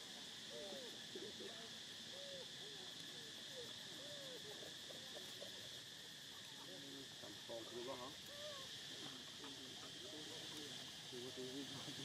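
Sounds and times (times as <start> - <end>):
high drone of insects: 0.0 - 12.0.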